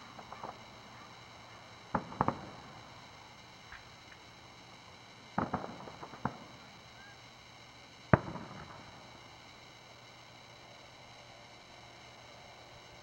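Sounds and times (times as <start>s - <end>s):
distant fireworks bursting: 0.0s - 11.7s.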